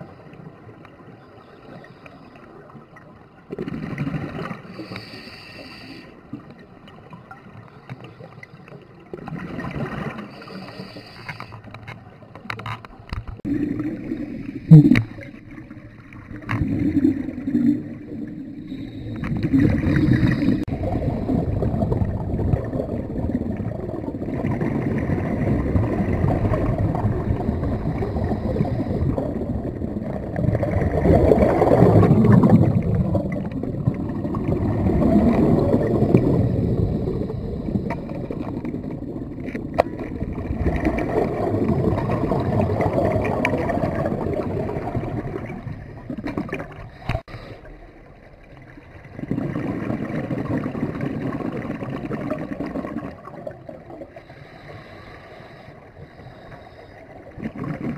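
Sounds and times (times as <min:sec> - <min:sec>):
underwater rushing and gurgling water: 0:00.0 - 0:57.9.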